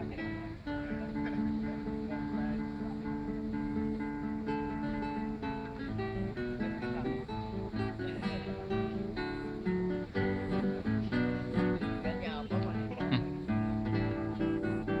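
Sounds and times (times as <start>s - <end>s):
fingerstyle acoustic guitar: 0.0s - 15.0s.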